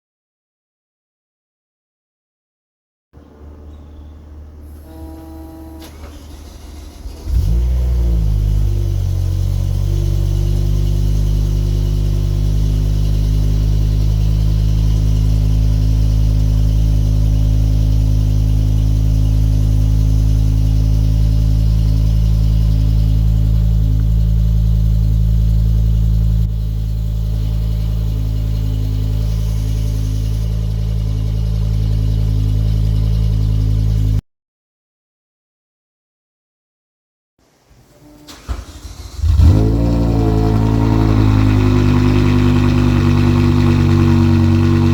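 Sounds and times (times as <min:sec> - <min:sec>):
car engine idling fast: 0:04.4 - 0:34.2, 0:38.4 - 0:44.9.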